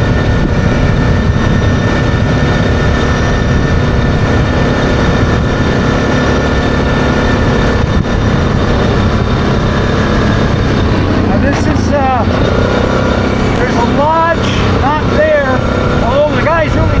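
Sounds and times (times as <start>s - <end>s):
atv engine running: 0.0s - 17.0s
wind buffeting microphone: 0.0s - 17.0s.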